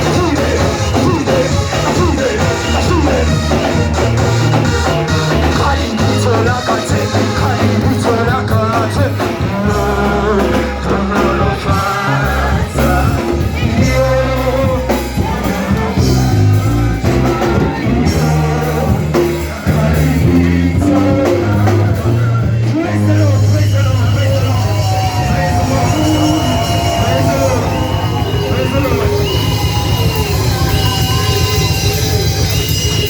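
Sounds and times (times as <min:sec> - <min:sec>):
loud amplified music with singing: 0:00.0 - 0:33.0.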